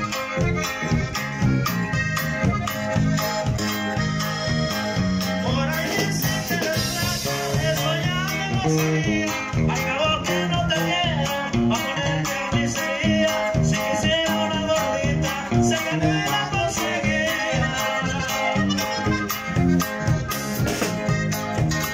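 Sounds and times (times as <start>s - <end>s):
accordion: 0.0s - 21.9s
drums: 0.0s - 21.9s
electric guitar: 0.0s - 21.9s.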